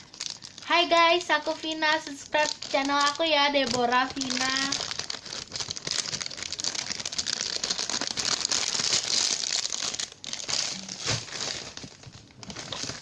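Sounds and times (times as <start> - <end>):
plastic crinkling and rustling: 0.0 - 13.0.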